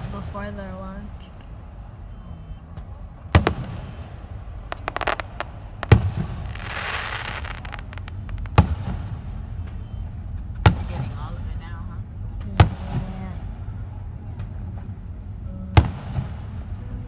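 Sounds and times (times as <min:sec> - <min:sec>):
fireworks bangs: 0:00.0 - 0:17.0
fireworks crackling pops: 0:00.0 - 0:17.0
fireworks hissing burst: 0:00.0 - 0:17.0.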